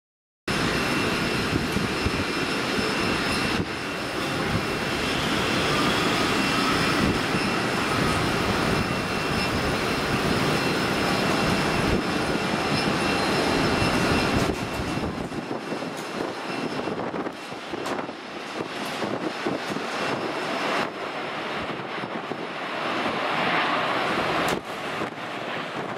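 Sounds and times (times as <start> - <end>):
jet engines rushing and whining: 0.5 - 25.9.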